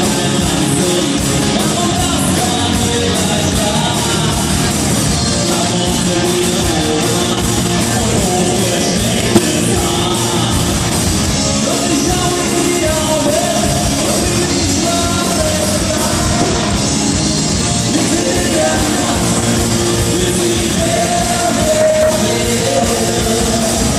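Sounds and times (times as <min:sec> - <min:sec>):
live rock band playing: 0:00.0 - 0:23.9.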